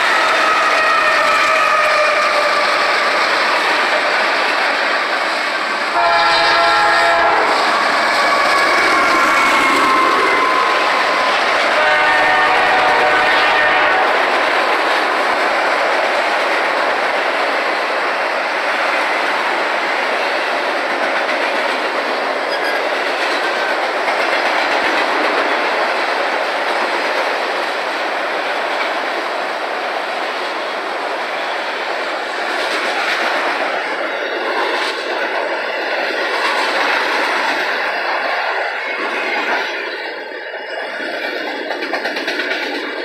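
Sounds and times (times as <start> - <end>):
train wheels rushing on rail: 0.0 - 43.0.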